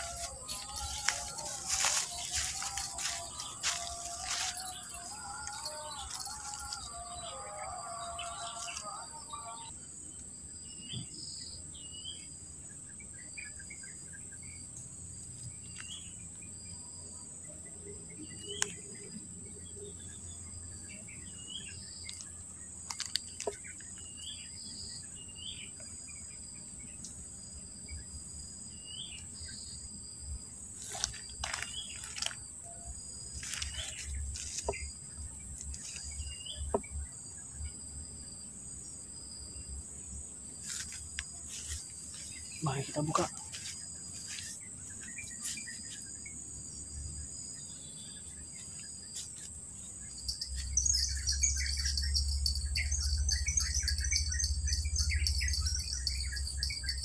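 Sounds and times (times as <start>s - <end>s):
insects buzzing and trilling: 0.0s - 57.0s.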